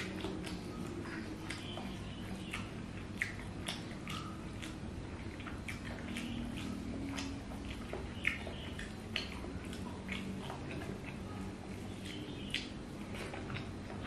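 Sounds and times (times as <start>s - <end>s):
wet chewing and smacking: 0.0s - 14.0s.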